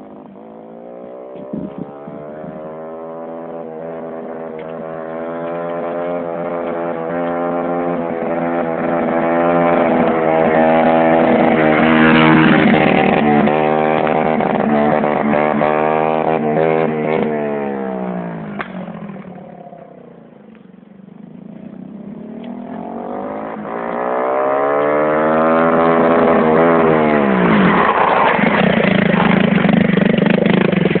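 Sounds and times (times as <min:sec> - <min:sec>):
quad bike engine revving: 0:00.0 - 0:20.3, 0:21.2 - 0:31.0.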